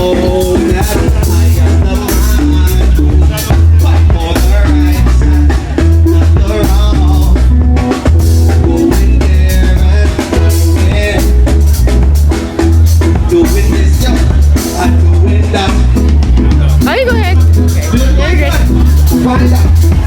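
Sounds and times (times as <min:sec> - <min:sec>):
party music with heavy bass: 0:00.0 - 0:20.0.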